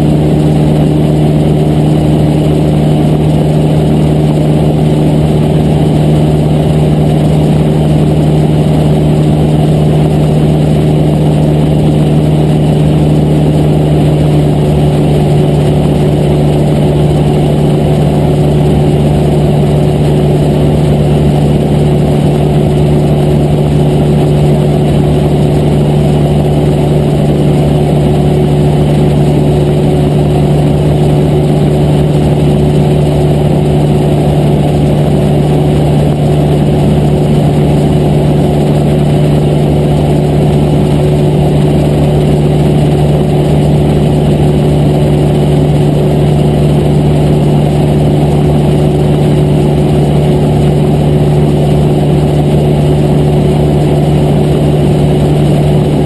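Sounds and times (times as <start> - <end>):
small plane engine droning: 0.0 - 56.0.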